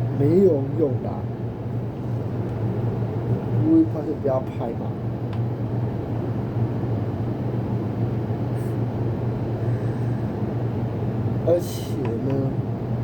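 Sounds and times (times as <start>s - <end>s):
low droning hum and rumble: 0.0s - 13.0s.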